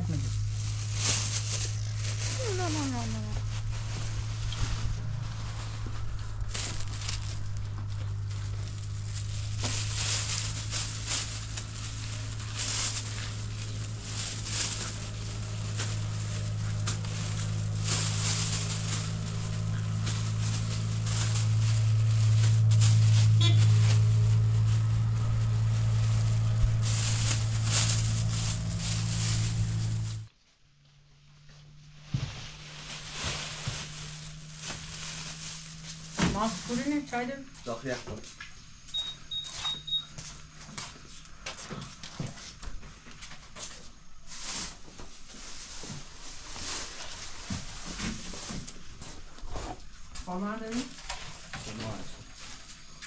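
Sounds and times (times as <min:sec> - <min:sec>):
plastic bags rustling: 0:00.0 - 0:30.3, 0:31.7 - 0:39.5, 0:40.2 - 0:53.0
low mechanical hum: 0:00.0 - 0:53.0.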